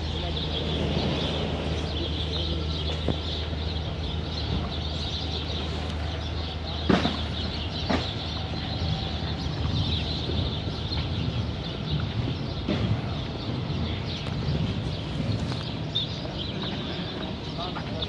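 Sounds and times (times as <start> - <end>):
birds chattering in trees: 0.0 - 18.0.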